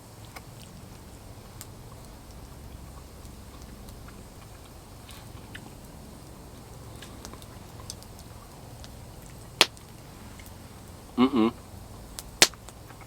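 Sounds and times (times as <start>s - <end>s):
faint clicks and ticks: 0.1s - 11.0s.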